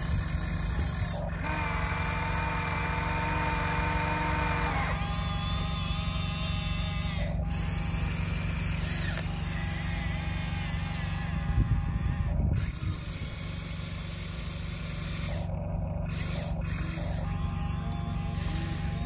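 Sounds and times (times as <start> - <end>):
toy excavator motors whirring: 0.0 - 19.0.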